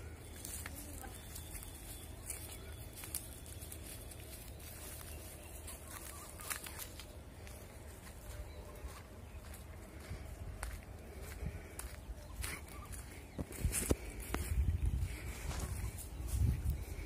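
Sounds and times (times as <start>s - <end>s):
footsteps on leaves and twigs: 0.0s - 17.0s.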